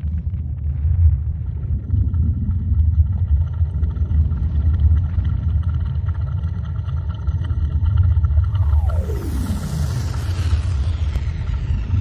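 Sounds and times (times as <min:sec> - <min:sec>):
deep steady rumble: 0:00.0 - 0:12.0.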